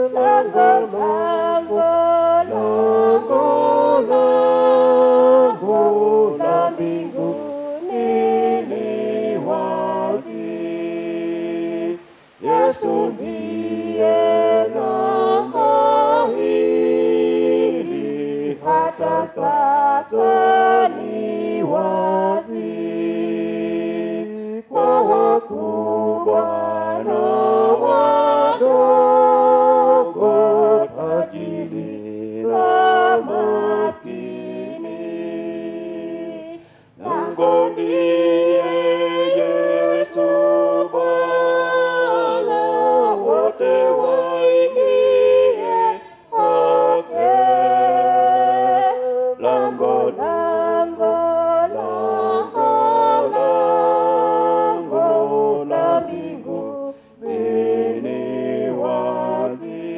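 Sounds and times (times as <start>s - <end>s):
choir singing a hymn a cappella: 0.0s - 59.9s.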